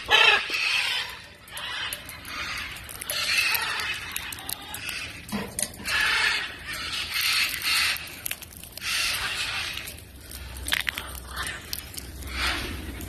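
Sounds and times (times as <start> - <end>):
macaws squawking: 0.0 - 13.0.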